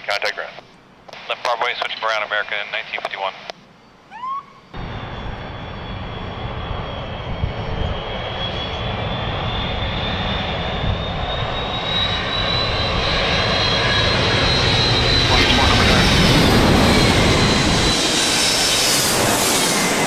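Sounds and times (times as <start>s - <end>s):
jet engines on approach: 0.0s - 20.0s.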